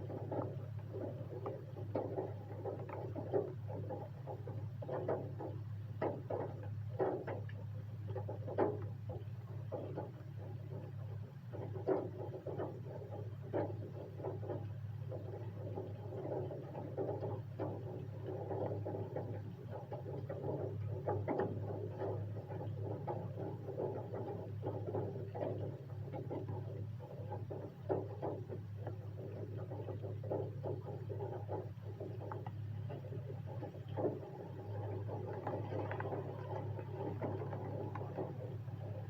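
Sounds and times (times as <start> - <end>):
low steady hum: 0.0 - 39.0
raindrops pattering: 0.0 - 39.0.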